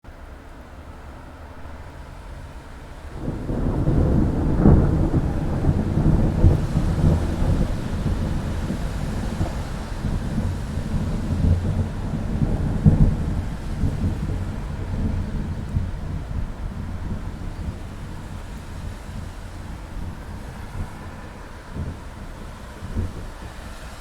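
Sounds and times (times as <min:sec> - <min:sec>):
rain hiss: 0:00.1 - 0:24.0
thunder rumbling: 0:01.1 - 0:24.0.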